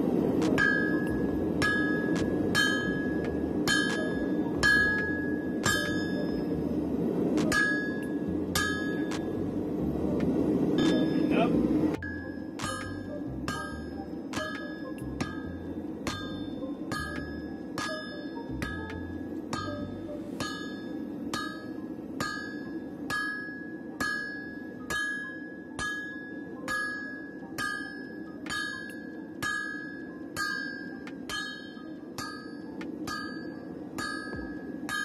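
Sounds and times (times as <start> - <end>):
hammer striking steel on anvil: 0.5 - 6.4, 7.4 - 9.4, 10.8 - 35.0.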